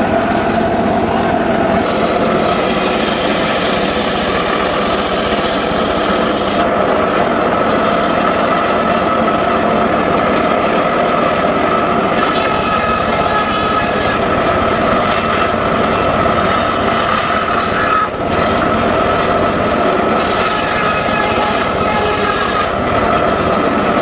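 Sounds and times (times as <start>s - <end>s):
circular saw whine: 0.0s - 7.5s, 10.8s - 23.6s.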